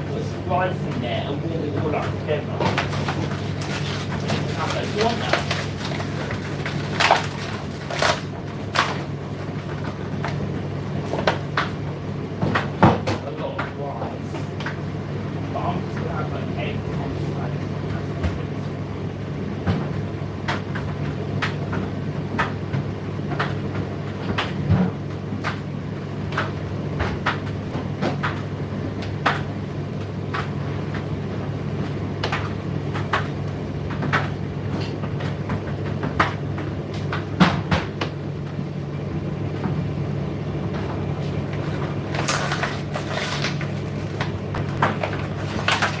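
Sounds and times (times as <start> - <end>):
tumble dryer motor hum: 0.0 - 46.0.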